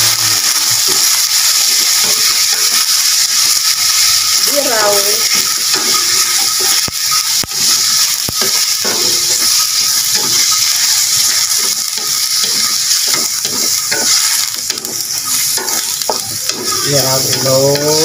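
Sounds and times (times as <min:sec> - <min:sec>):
meat sizzling in a wok: 0:00.0 - 0:18.0.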